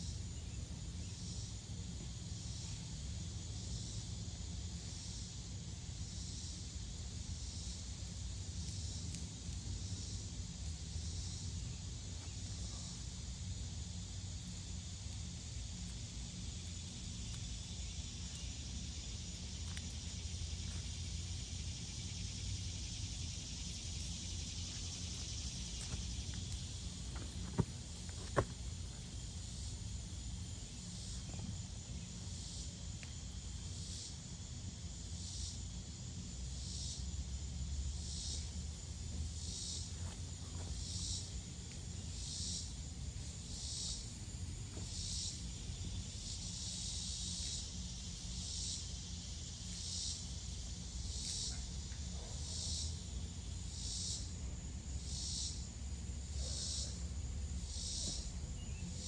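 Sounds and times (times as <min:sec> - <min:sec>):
insect hiss and trills: 0:00.0 - 0:59.0.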